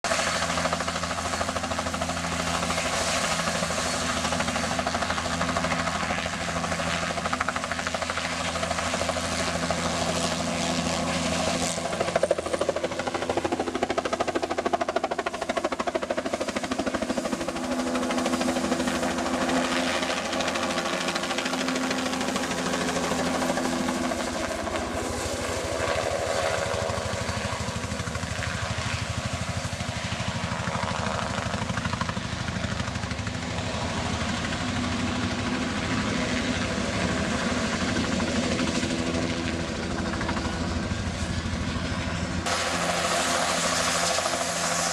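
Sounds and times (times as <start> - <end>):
helicopter engine tones: 0.1 - 44.9
helicopter rotor chop: 0.1 - 44.9.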